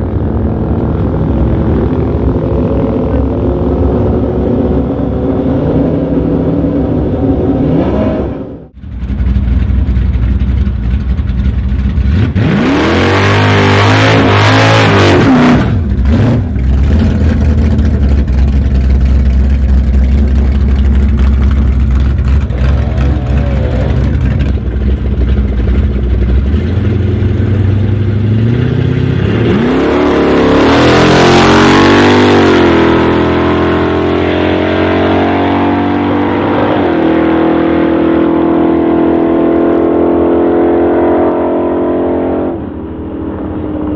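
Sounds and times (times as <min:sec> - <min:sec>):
car engines accelerating hard: 0:00.0 - 0:43.9.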